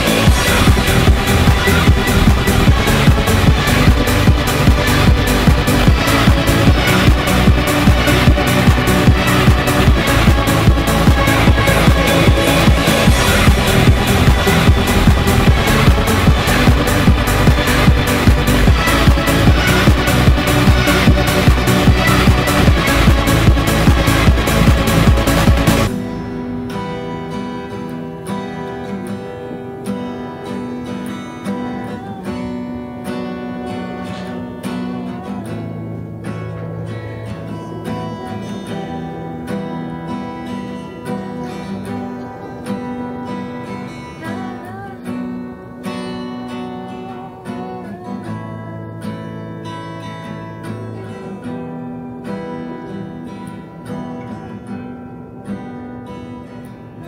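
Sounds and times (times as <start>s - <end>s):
acoustic guitar chords: 0.0s - 57.0s.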